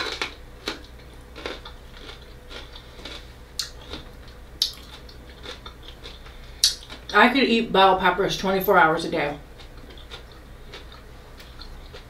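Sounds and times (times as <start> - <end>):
crisp chewing crunches: 0.0 - 7.2, 9.5 - 12.0.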